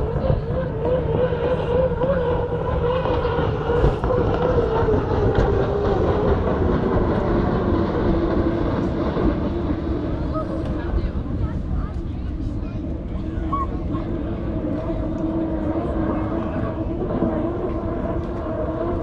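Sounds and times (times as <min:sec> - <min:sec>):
boat turbine engine whining: 0:00.0 - 0:19.0
low rumble: 0:00.0 - 0:19.0.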